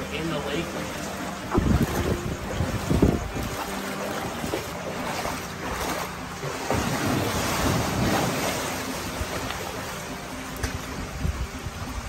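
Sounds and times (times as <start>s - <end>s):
floodwater rushing and splashing: 0.0s - 12.0s
wind buffeting microphone: 1.3s - 9.7s, 10.6s - 12.0s.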